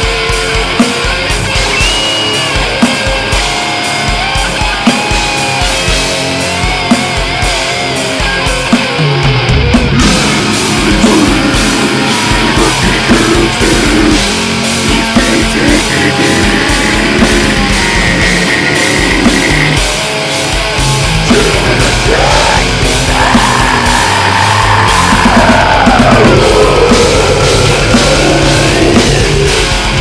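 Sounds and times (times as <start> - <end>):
heavy metal song: 0.0 - 30.0.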